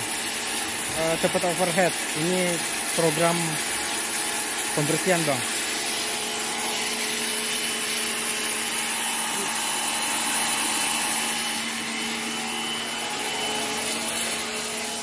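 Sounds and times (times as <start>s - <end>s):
washer motor hum: 0.0s - 15.0s
water jets hissing on metal: 0.0s - 15.0s.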